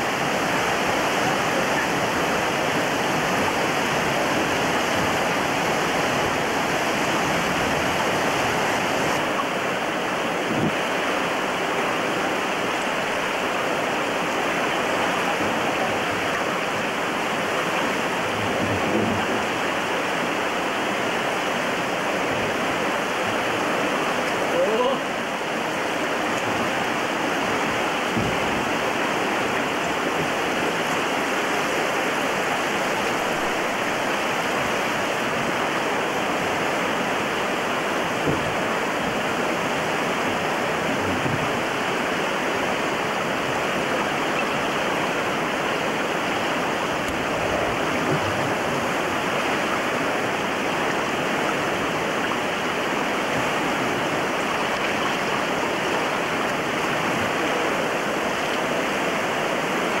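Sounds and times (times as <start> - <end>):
river rapids rushing: 0.0 - 60.0.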